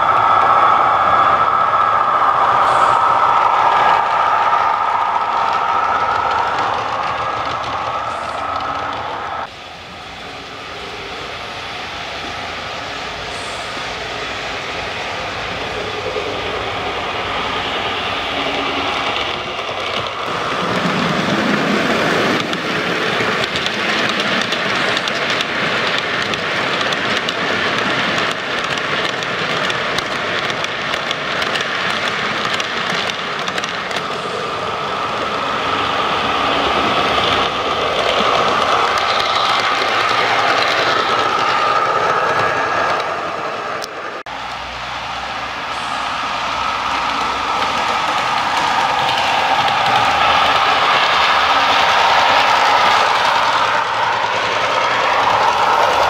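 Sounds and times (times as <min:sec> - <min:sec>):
wheels clicking over rail joints: 0:03.0 - 0:09.6, 0:15.2 - 0:56.0.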